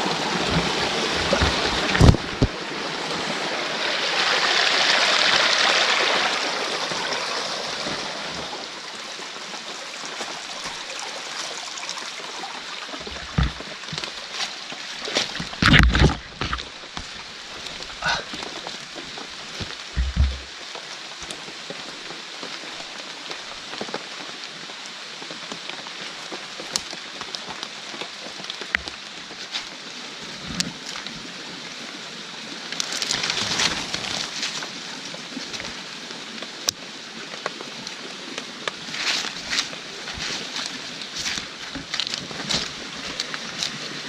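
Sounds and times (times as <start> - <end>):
rain falling on forest: 0.0 - 44.0.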